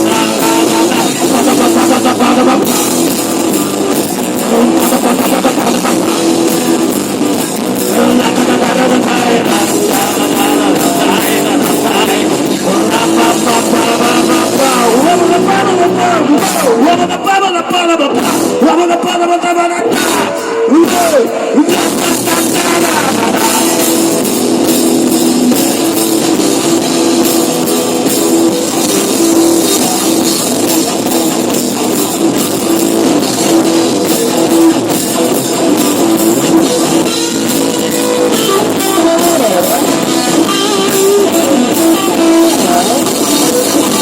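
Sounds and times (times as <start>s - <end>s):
instrumental rock music: 0.0s - 44.0s.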